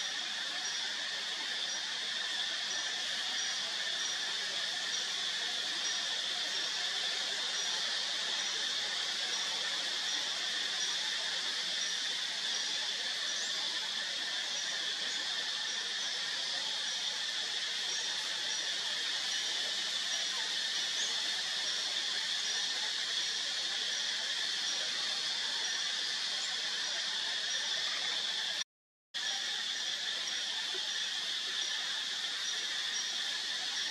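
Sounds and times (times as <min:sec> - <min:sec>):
high-pitched insect chorus: 0:00.0 - 0:28.6, 0:29.2 - 0:33.9.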